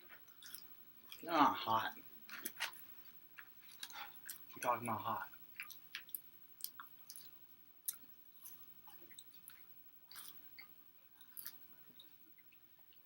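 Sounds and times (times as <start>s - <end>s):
person chewing food: 0.0s - 1.2s, 2.2s - 4.7s, 5.3s - 13.0s.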